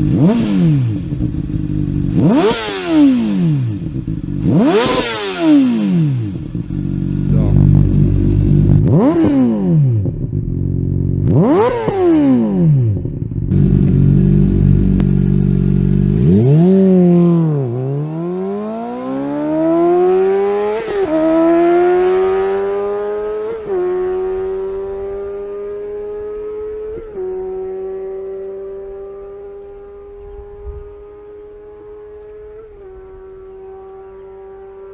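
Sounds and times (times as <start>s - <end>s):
motorcycle engine revving and accelerating: 0.0s - 34.9s.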